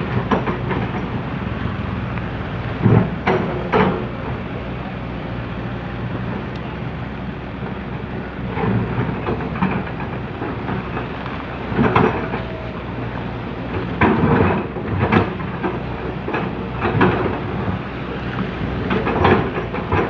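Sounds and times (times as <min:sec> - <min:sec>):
excavator clunks and scrapes: 0:00.0 - 0:20.0
excavator diesel engine running: 0:00.0 - 0:20.0.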